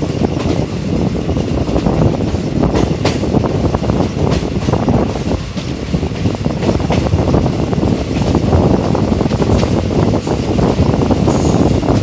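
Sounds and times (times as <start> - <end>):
train wheels clanking: 0.0 - 12.0
train wheels rumbling on rails: 0.0 - 12.0.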